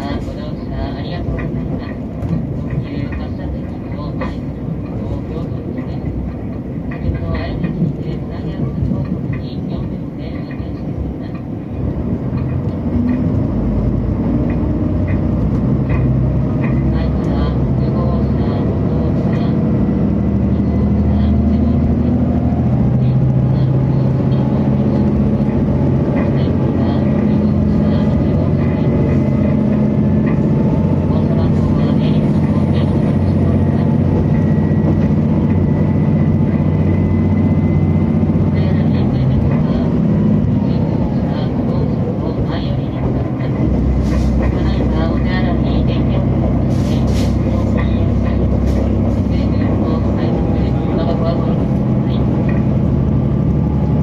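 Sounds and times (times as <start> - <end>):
diesel railcar engine drone: 0.0 - 54.0.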